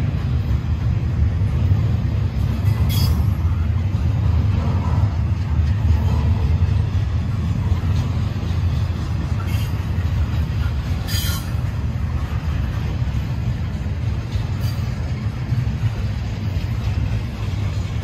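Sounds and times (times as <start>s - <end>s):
freight train wheels rumbling: 0.0s - 18.0s
train wheels screeching: 2.4s - 18.0s.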